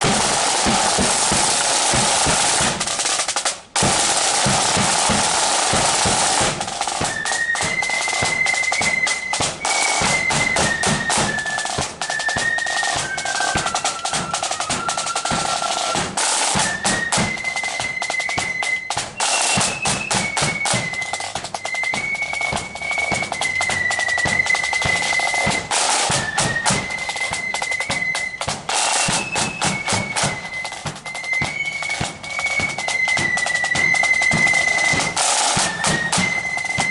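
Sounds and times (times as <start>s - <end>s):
flutes playing in unison: 0.0s - 36.9s
marching flute band playing: 0.0s - 36.9s
snare drums rolling: 0.0s - 36.9s.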